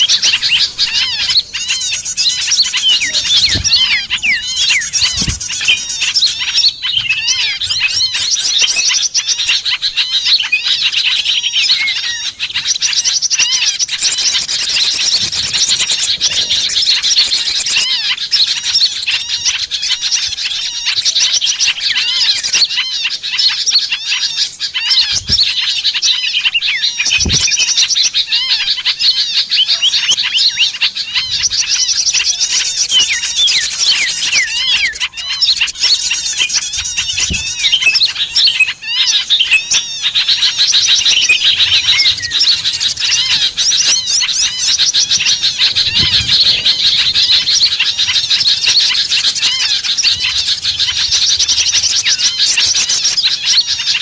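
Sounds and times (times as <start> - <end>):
rapid bird trills: 0.0 - 54.0
songbirds chirping and twittering: 0.0 - 54.0.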